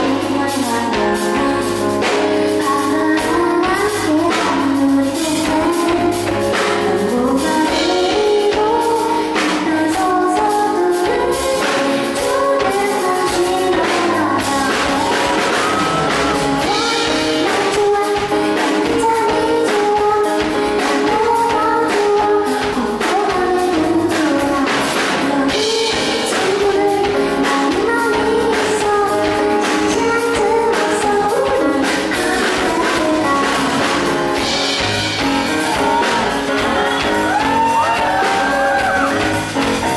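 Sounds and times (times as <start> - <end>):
woman singing into a microphone: 0.0 - 34.5, 35.2 - 39.9
band with percussion beat: 0.0 - 39.9
stage keyboard: 0.0 - 39.9.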